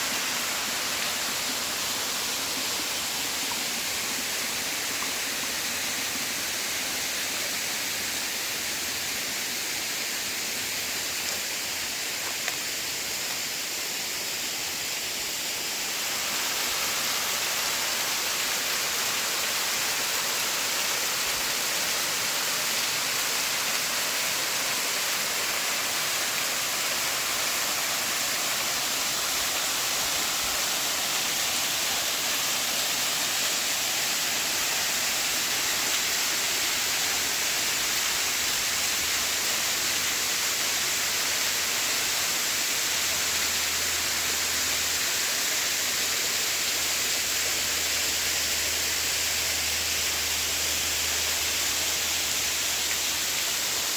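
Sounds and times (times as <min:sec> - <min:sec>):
water rushing over cascades: 0:00.0 - 0:53.9.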